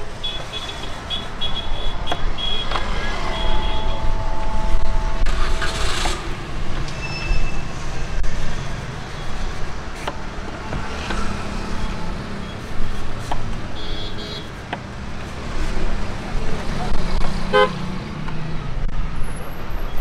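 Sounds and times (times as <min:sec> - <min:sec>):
passing traffic rumble: 0:00.0 - 0:20.0.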